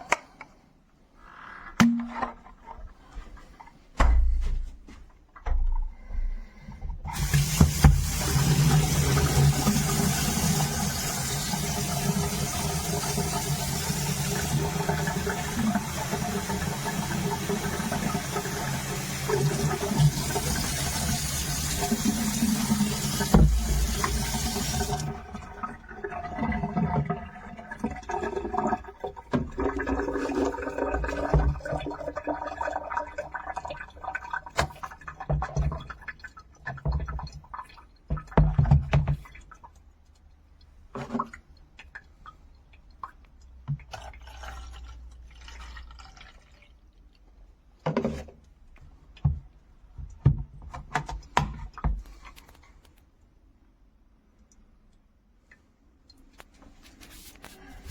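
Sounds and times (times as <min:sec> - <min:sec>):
water running into plastic tank: 0:06.6 - 0:52.6, 0:55.4 - 0:57.9.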